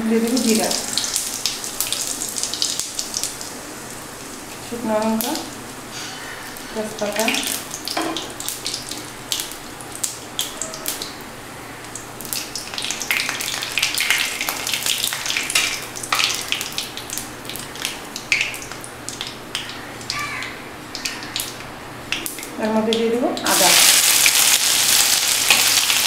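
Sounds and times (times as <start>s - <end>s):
spices sizzling in hot oil: 0.1s - 22.7s, 23.4s - 26.0s.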